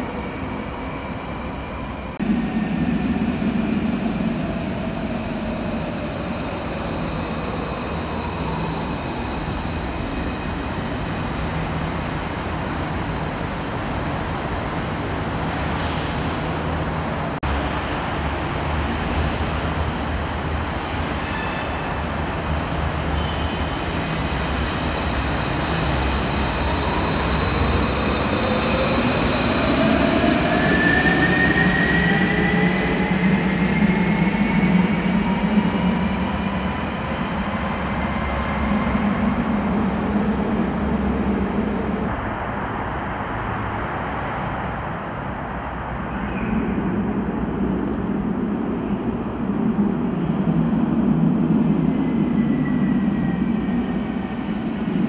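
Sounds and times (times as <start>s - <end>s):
tram rail rumble: 0.0s - 55.0s.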